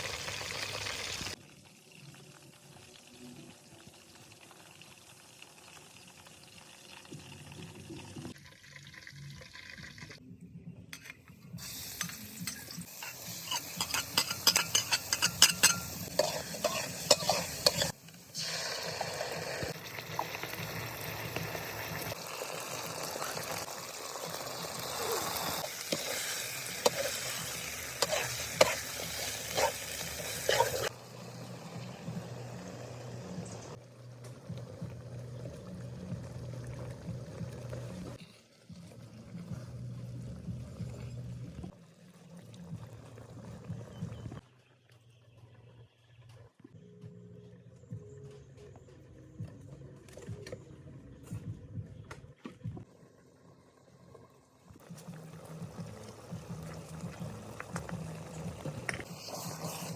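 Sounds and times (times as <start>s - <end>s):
chicken frying in hot oil: 0.0s - 10.2s, 11.7s - 44.3s, 54.1s - 59.9s.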